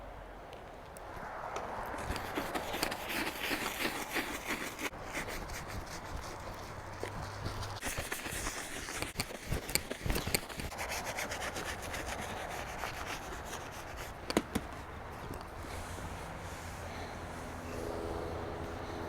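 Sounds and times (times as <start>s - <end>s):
scrubbing on vinyl pad: 1.6s - 17.6s.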